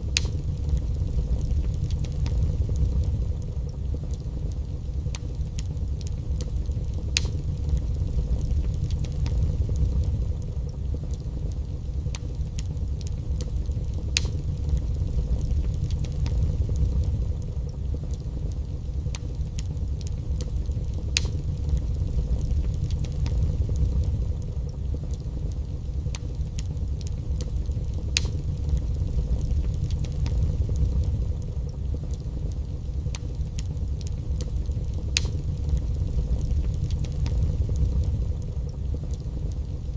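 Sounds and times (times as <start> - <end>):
fire crackles and pops: 0.0 - 39.9
fire flames rumbling: 0.0 - 39.9.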